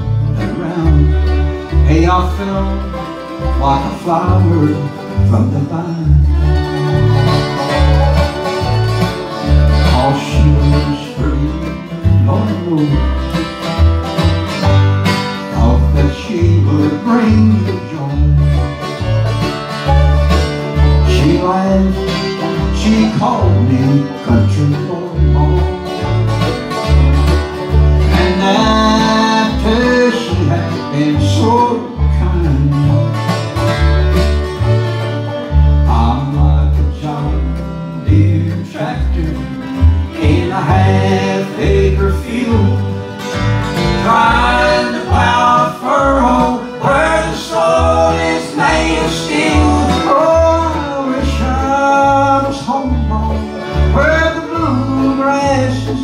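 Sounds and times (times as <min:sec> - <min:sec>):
bluegrass band playing: 0:00.0 - 0:56.0
upright bass beat: 0:00.0 - 0:56.0.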